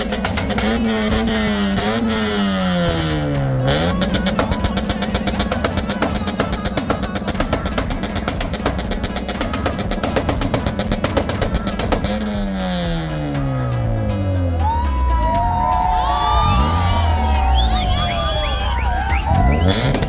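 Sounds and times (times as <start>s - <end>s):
vehicle engine revving with crackle: 0.0s - 14.6s, 16.4s - 20.0s.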